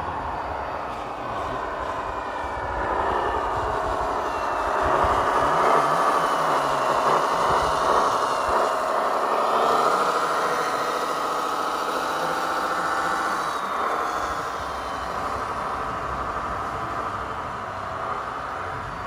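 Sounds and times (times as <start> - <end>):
diesel engine idling through small speaker: 0.0 - 19.0.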